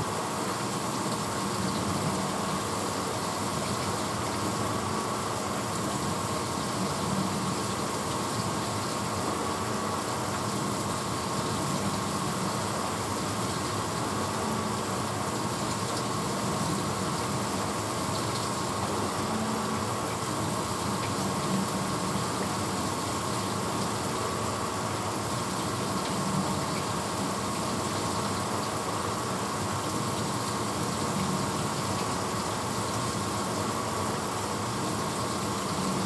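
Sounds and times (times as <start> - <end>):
dishwasher running: 0.0 - 36.0.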